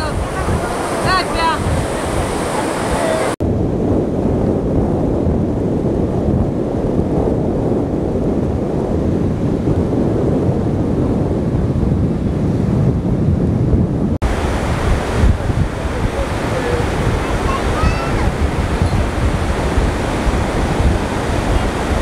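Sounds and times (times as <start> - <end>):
surf breaking on beach: 0.0 - 13.2, 14.2 - 22.0
wind buffeting microphone: 0.0 - 22.0.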